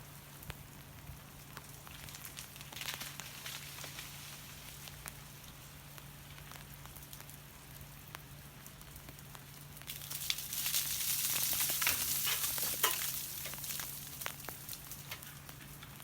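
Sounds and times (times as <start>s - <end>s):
hiss of falling wet snow: 1.6s - 15.6s.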